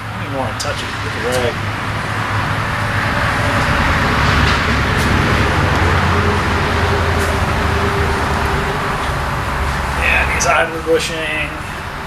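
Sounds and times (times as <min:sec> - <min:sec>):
machine hum with rushing noise: 0:00.0 - 0:12.0.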